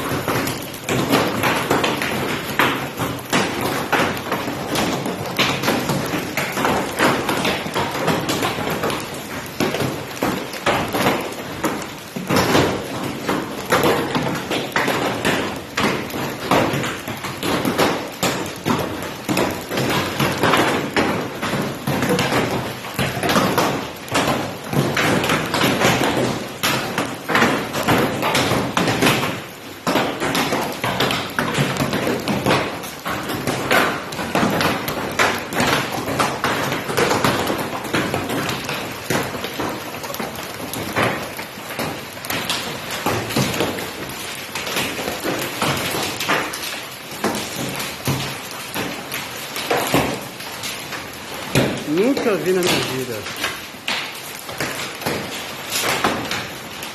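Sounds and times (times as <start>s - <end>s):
heavy hail hitting hard surfaces: 0.0s - 56.9s.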